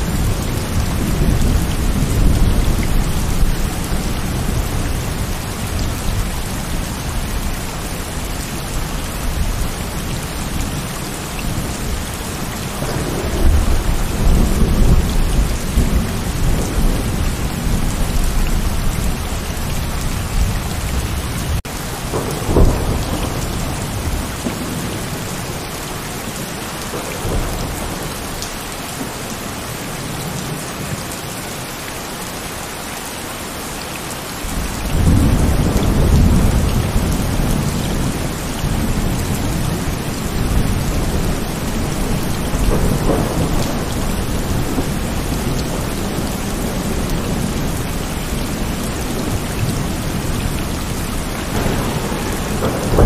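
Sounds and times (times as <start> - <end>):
low rolling thunder rumble: 0.0 - 25.7, 34.5 - 53.0
thunder clap and rumble: 0.0 - 30.6, 34.5 - 53.0
heavy rain falling: 0.0 - 53.0.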